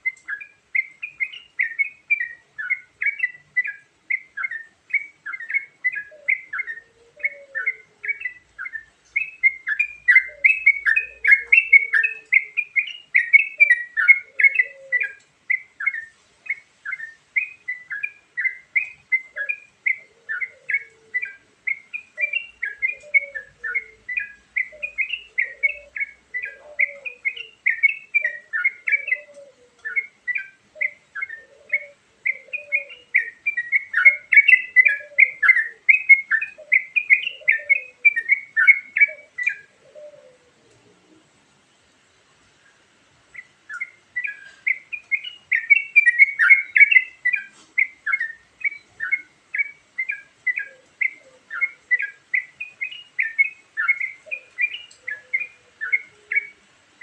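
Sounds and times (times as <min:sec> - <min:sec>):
bird chirping song: 0:00.0 - 0:57.0.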